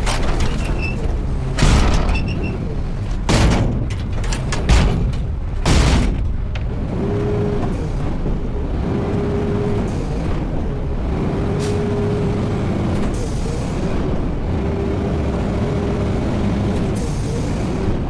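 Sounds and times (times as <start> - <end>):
diesel engine rumble: 0.0 - 18.0.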